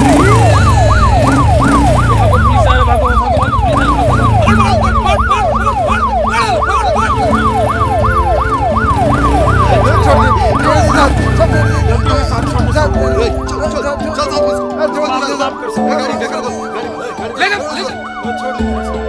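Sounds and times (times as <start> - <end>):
police siren yelping: 0.0 - 19.0.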